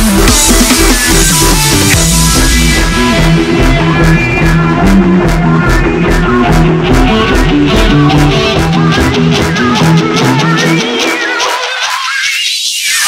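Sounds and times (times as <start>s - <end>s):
moving bass line: 0.0s - 11.0s
steady drum beat: 0.0s - 11.0s.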